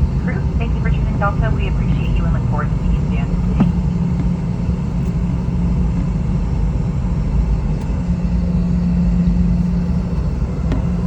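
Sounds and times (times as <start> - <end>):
aircraft cabin rumble: 0.0 - 11.0
jet engines idling hum: 0.0 - 11.0.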